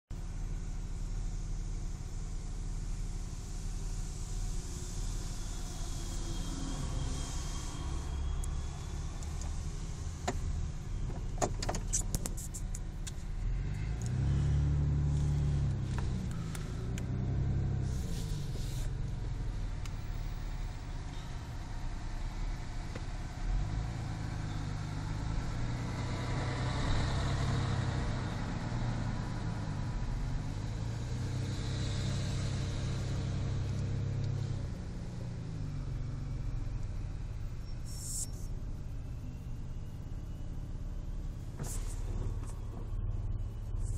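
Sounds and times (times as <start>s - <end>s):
vehicle engines droning: 0.1s - 43.9s.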